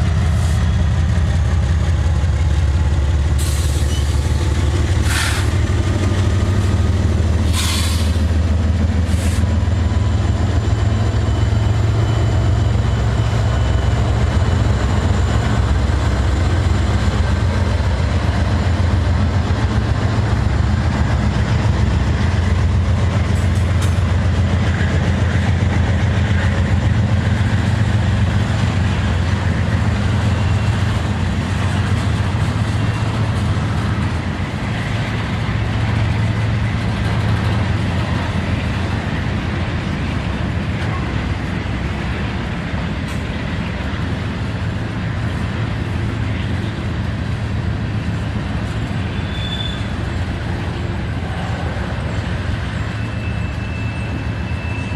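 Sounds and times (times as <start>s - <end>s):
diesel locomotive drone: 0.0s - 54.9s.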